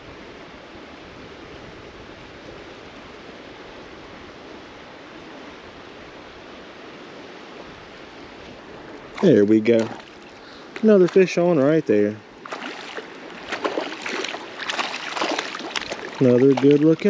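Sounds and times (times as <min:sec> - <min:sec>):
mountain creek rushing: 0:00.0 - 0:17.0.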